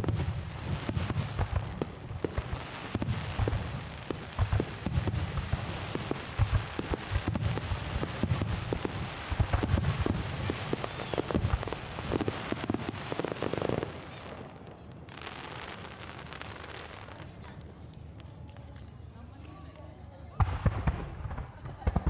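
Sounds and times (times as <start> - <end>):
fireworks cracks and booms: 0.0 - 22.0.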